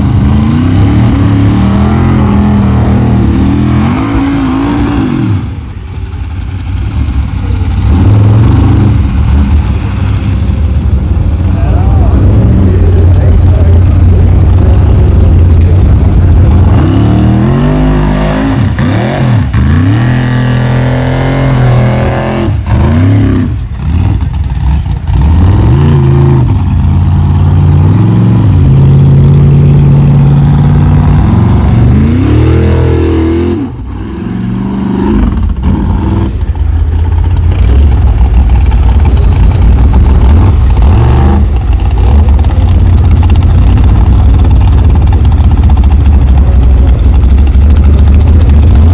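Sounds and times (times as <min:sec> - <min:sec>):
race car engine revving: 0:00.0 - 0:48.9.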